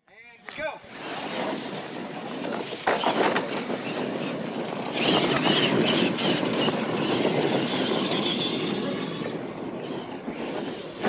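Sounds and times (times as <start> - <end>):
tyres on dirt: 0.4 - 11.0
electric motors whining: 0.8 - 11.0.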